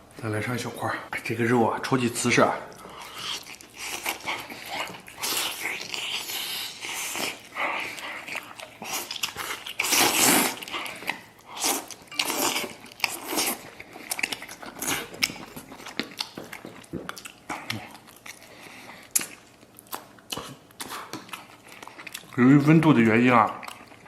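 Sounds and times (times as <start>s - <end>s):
person chewing meat: 2.6s - 24.0s.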